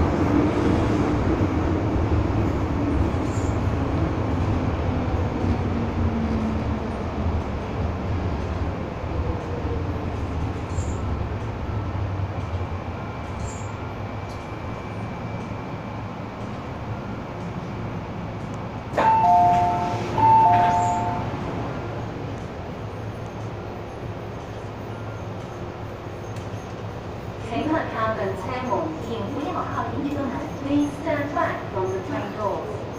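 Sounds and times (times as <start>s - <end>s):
train carriage rumble: 0.0s - 32.9s.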